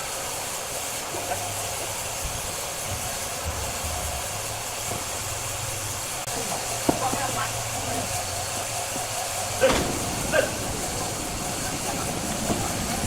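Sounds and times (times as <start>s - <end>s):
wood-cutting saw machine running: 0.0s - 13.0s.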